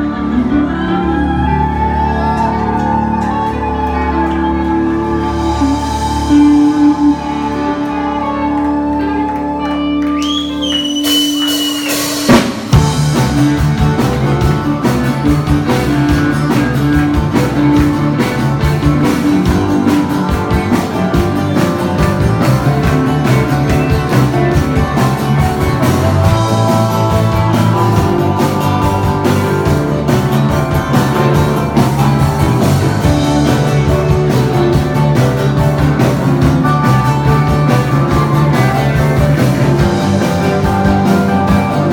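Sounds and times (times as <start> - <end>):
instrumental rock music: 0.0 - 41.9.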